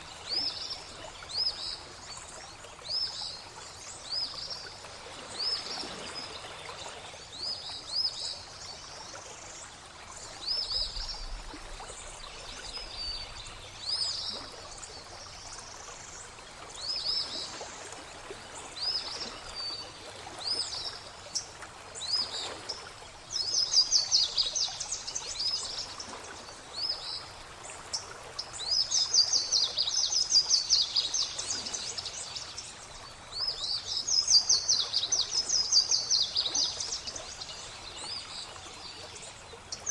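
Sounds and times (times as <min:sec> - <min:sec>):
trickle of flowing water: 0:00.0 - 0:39.9.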